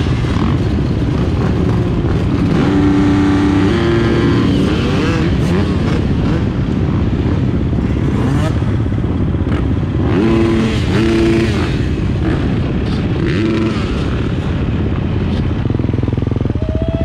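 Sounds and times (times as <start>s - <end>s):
two-stroke motorcycle engine revving: 0.0s - 16.7s.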